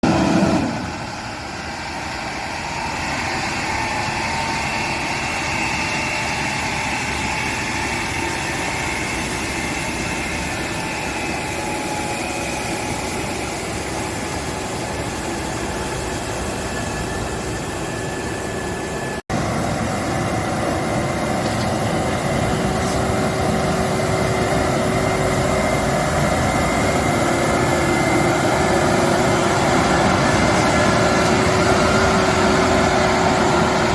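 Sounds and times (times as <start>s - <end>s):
heavy machinery engines running: 0.0s - 33.9s.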